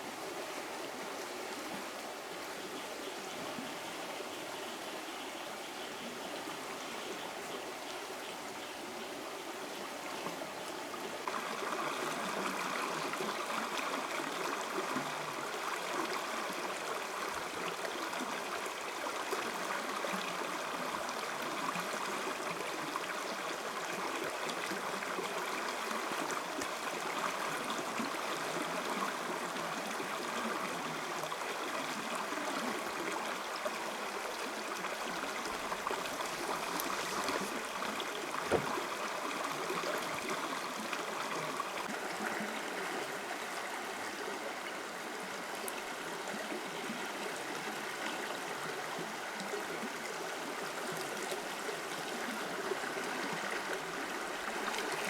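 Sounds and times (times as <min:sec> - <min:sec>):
stream rushing and trickling: 0:00.0 - 0:55.0.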